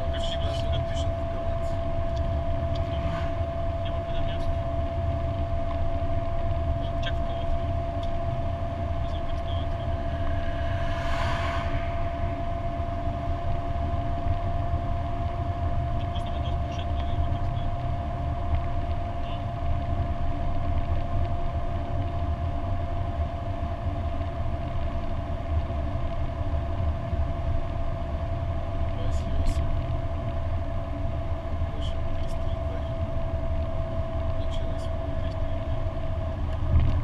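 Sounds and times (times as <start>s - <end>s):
car engine and road drone: 0.0s - 37.0s
constant whine: 0.0s - 37.0s.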